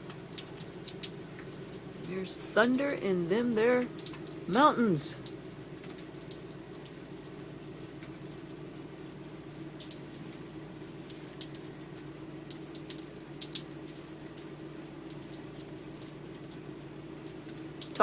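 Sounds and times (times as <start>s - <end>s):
drips ticking: 0.0s - 18.0s
steady rain: 0.0s - 18.0s
water streaming: 0.0s - 18.0s.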